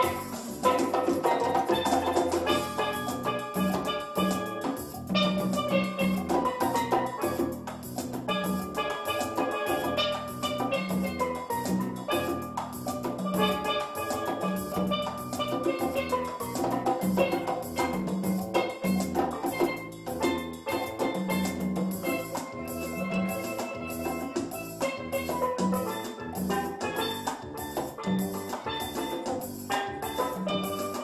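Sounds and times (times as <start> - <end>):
steel drums playing: 0.0 - 31.0.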